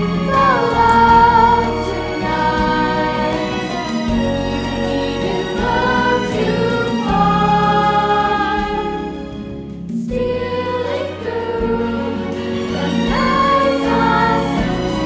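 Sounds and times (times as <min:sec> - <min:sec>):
children's choir singing: 0:00.0 - 0:09.4, 0:10.0 - 0:15.0
instrumental accompaniment with bass: 0:00.0 - 0:15.0.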